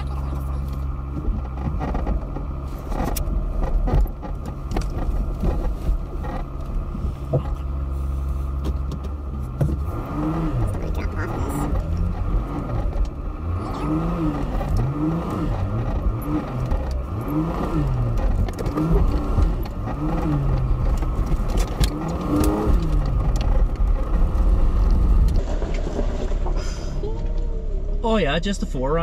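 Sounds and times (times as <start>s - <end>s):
van engine revving: 0.0s - 29.0s
vehicle knocks and rattles: 0.7s - 7.8s, 8.5s - 13.5s, 14.2s - 27.0s.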